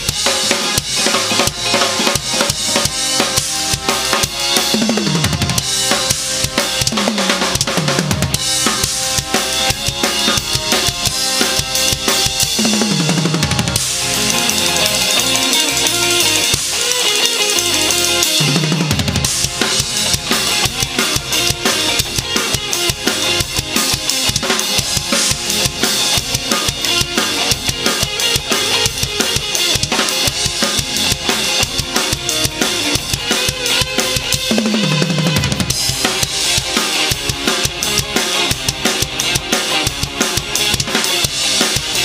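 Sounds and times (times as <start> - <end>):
drum kit groove: 0.0 - 42.0
ska backing track: 0.0 - 42.0.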